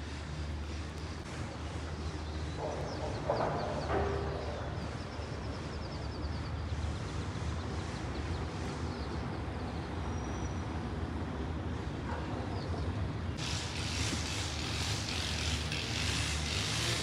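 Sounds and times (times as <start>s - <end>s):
cable car hum: 0.0s - 17.0s.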